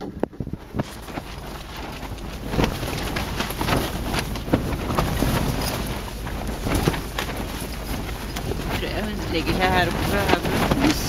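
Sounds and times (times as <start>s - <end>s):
strong wind gusting: 0.0s - 11.0s
tent fabric flapping: 0.0s - 11.0s.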